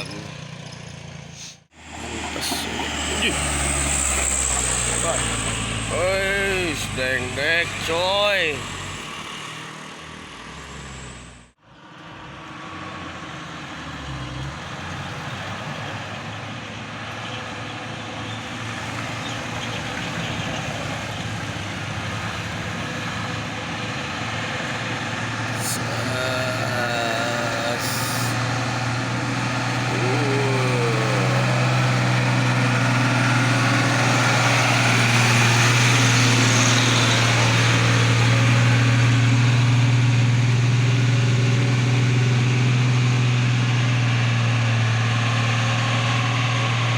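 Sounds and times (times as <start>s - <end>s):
bus engine running: 0.0s - 46.9s
road traffic noise: 0.0s - 46.9s.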